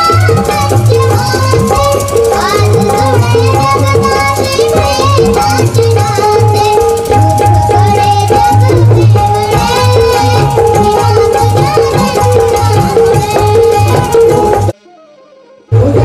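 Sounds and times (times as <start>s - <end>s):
hand drum rhythm: 0.0s - 14.8s
girl singing into a microphone: 0.0s - 16.0s
harmonium: 0.0s - 16.0s.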